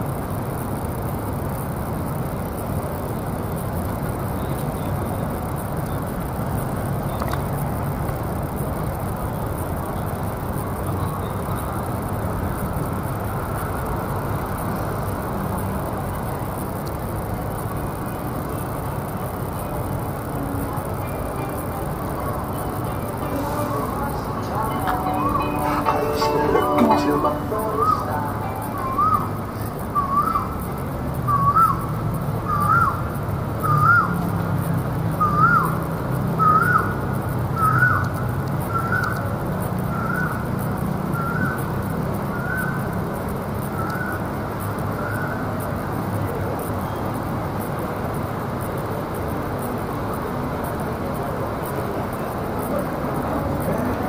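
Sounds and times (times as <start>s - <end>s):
city noise hum: 0.0s - 54.0s.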